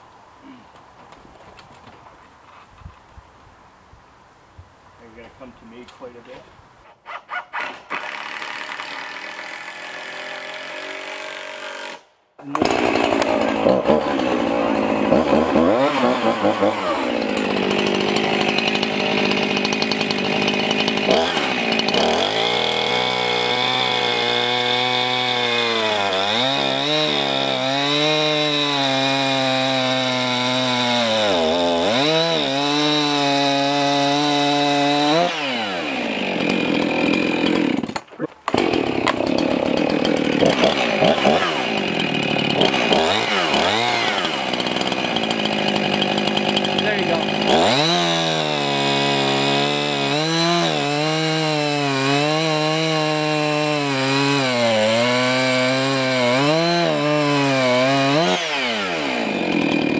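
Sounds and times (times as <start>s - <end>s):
chainsaw cutting timber: 5.7s - 59.9s.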